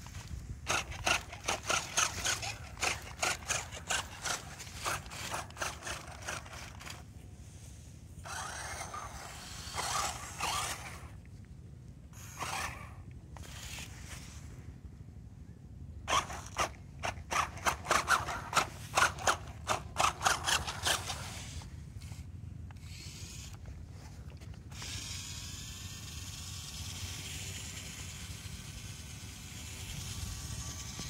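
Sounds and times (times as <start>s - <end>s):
toy wheels scraping sand: 0.0s - 11.2s, 12.1s - 14.6s, 16.1s - 31.0s.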